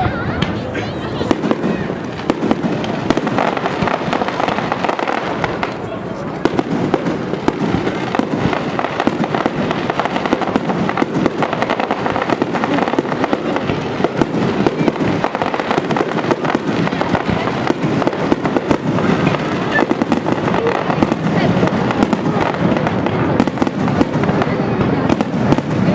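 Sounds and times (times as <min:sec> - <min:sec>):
fireworks bangs and crackles: 0:00.0 - 0:25.9.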